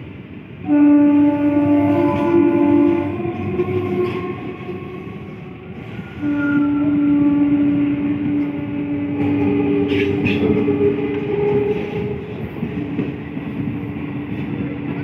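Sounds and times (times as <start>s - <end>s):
train rolling rumble: 0.0s - 15.0s
single-tone train horn: 0.6s - 13.7s.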